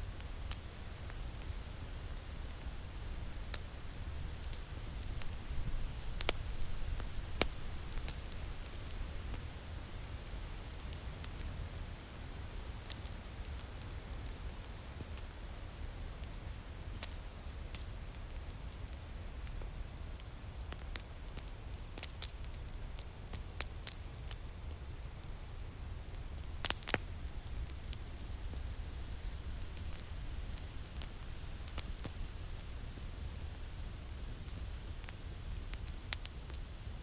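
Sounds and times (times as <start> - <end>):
fire popping: 0.0 - 37.0
low rumble of wind: 0.0 - 37.0
wood fire crackling: 0.0 - 37.0.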